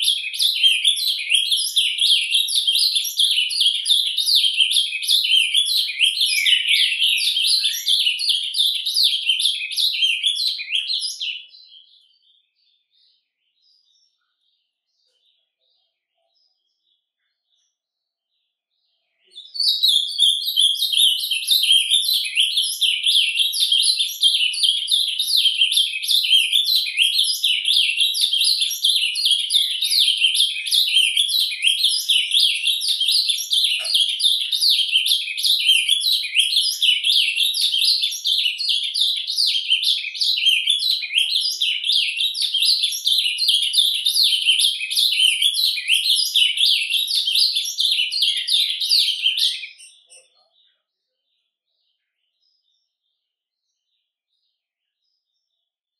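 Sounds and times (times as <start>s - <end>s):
bird chirping and twittering: 0.0s - 55.6s.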